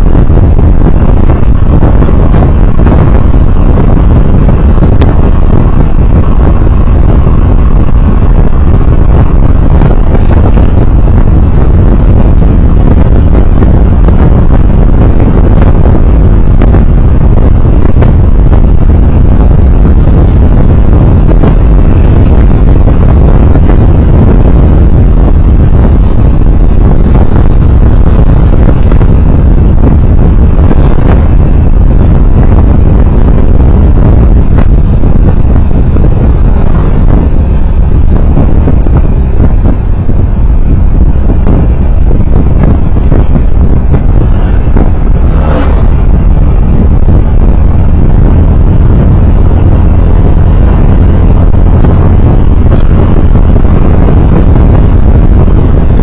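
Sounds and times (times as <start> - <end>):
tyres on road: 0.0 - 55.7
vehicle engine: 0.0 - 56.0
wind noise: 0.0 - 56.0.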